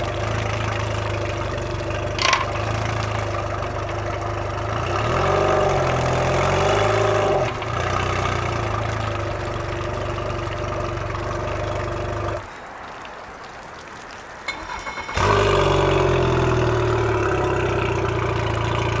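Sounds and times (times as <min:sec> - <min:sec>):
outboard motor running: 0:00.0 - 0:12.4, 0:14.5 - 0:19.0
outboard motor sputtering: 0:00.0 - 0:12.4, 0:14.5 - 0:19.0.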